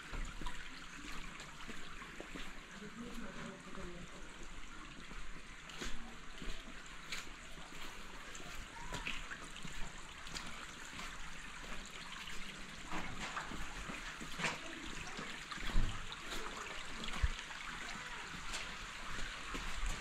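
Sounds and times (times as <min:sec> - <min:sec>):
water trickling over stones: 0:00.0 - 0:20.0.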